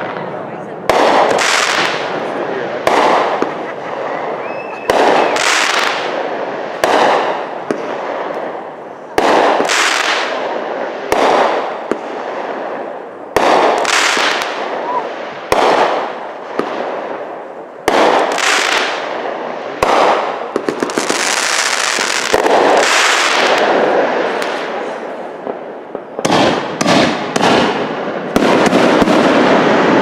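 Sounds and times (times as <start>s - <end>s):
fireworks bangs: 0.0s - 30.0s
fireworks crackling and hissing: 0.0s - 30.0s.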